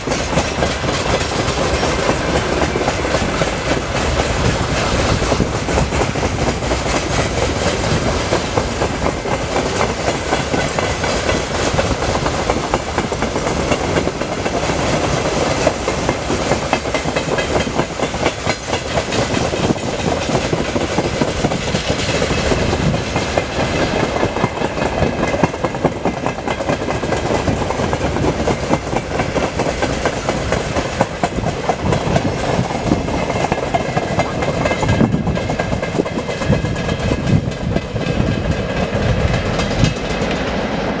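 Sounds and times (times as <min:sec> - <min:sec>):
steady train rumble: 0:00.0 - 0:41.0
train wheels clattering over rail joints: 0:00.0 - 0:41.0.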